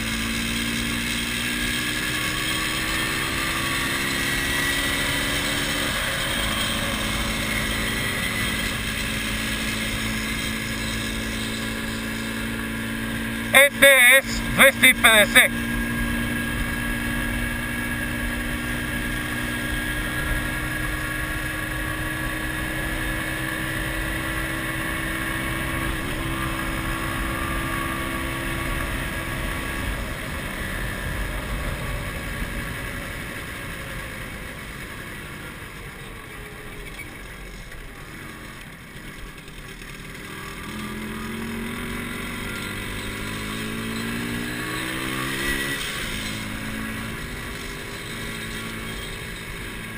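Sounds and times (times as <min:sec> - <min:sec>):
two-stroke motorcycle engine running: 0:00.0 - 0:49.9.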